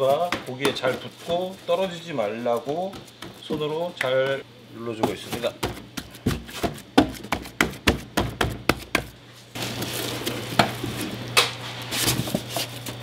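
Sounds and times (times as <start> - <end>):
kitchen hum: 0.0 - 13.0.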